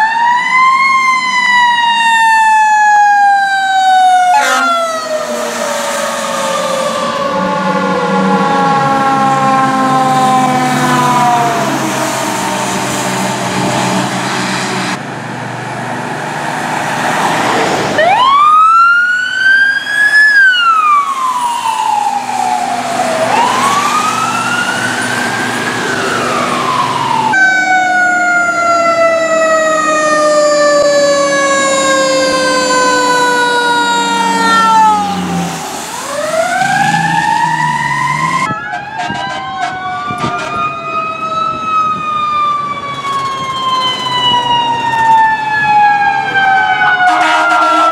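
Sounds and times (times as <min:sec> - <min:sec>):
emergency sirens wailing: 0:00.0 - 0:47.9.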